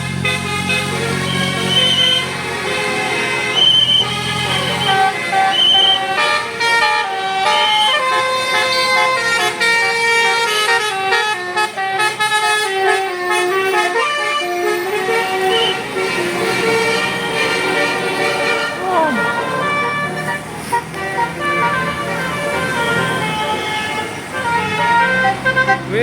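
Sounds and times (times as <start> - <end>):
bus musical horn melody: 0.0 - 26.0
low engine rumble: 0.0 - 26.0.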